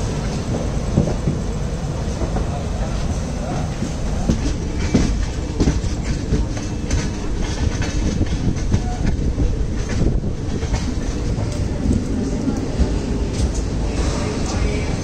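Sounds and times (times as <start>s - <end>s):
train wheels rumbling: 0.0s - 15.0s
wheels clacking over rails: 2.2s - 15.0s.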